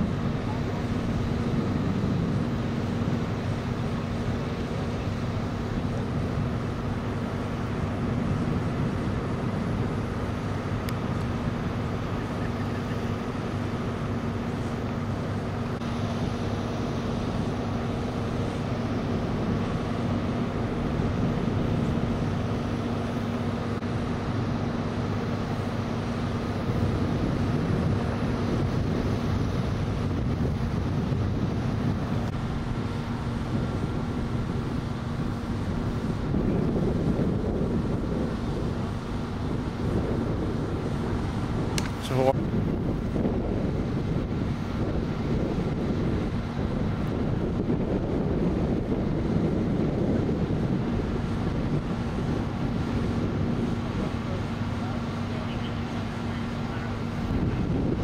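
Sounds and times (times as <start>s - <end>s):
steady engine hum: 0.0s - 58.0s
wind rumble on microphone: 0.0s - 58.0s.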